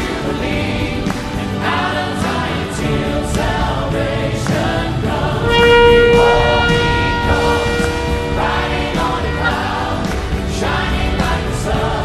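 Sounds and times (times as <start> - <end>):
choir singing: 0.0 - 12.0
instrumental backing: 0.0 - 12.0.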